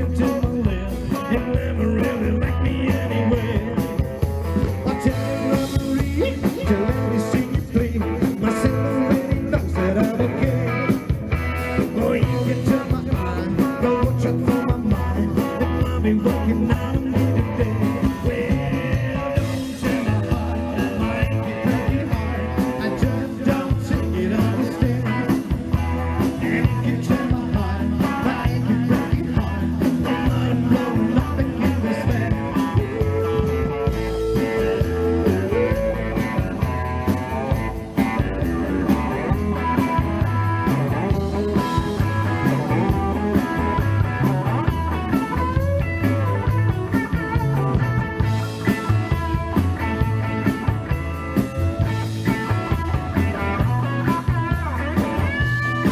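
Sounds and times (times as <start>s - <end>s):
bass and drum beat: 0.0s - 55.9s
electric guitar: 0.0s - 55.9s.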